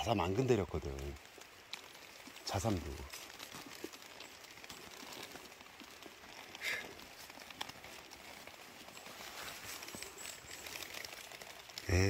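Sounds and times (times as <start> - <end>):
dry leaves rustling: 0.0 - 12.0.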